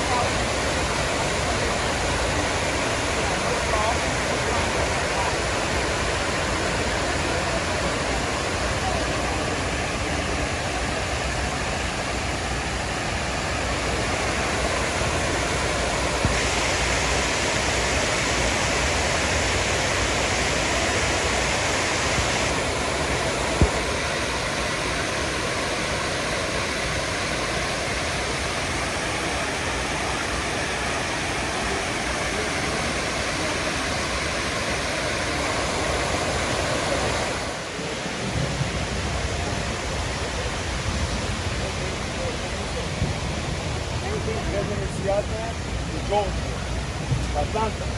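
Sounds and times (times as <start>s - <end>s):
water cascading into basin: 0.0s - 47.9s.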